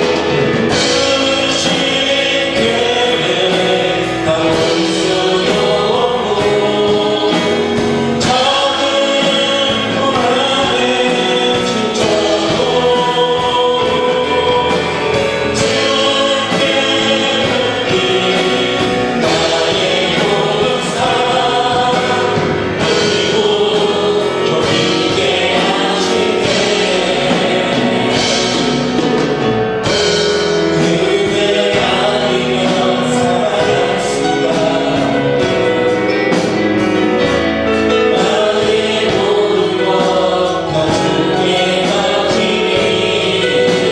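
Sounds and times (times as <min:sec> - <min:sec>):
group singing worship song: 0:00.0 - 0:43.9
instrumental backing with beat: 0:00.0 - 0:43.9.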